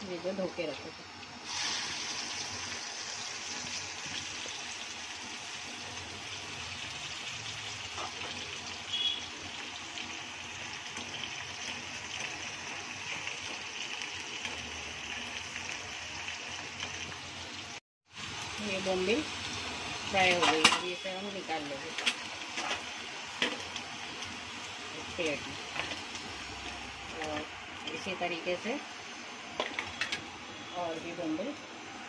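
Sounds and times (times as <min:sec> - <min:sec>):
fish sizzling in hot oil: 0:00.2 - 0:31.5.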